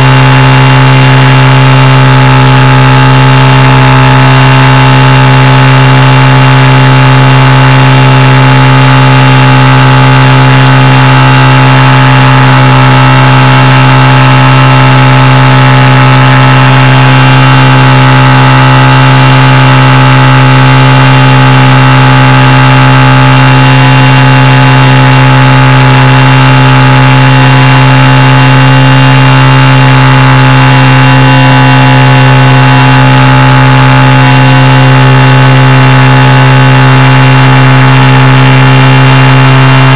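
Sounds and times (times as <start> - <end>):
electric motor and propeller drone: 0.0 - 39.9.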